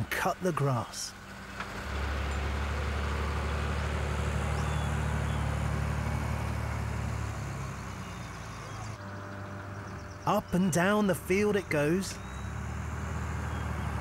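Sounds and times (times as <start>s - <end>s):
tractor engine running: 0.0s - 14.0s
mower cutting grass: 1.3s - 10.2s, 11.3s - 14.0s.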